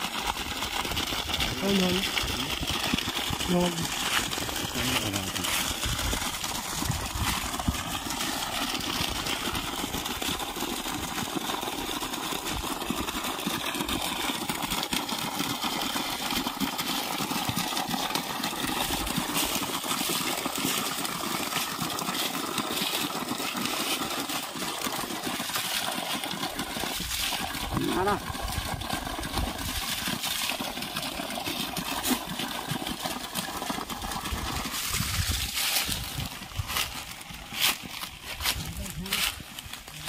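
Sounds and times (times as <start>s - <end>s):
water gushing onto leaves and ground: 0.0s - 40.0s.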